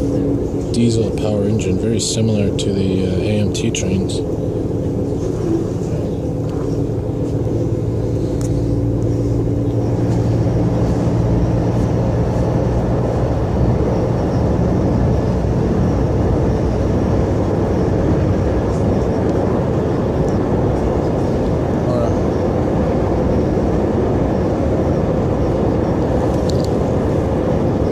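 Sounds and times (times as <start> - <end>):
diesel engine hum: 0.0 - 27.9
train ride rumble: 0.0 - 27.9.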